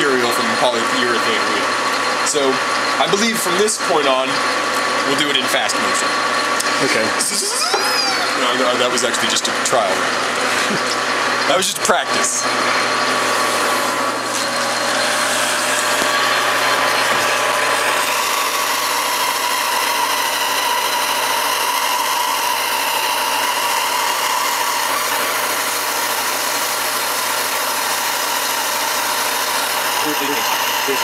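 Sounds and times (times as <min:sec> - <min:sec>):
low motor hum: 0:00.0 - 0:31.0
rasp scraping spinning wheel: 0:00.0 - 0:31.0.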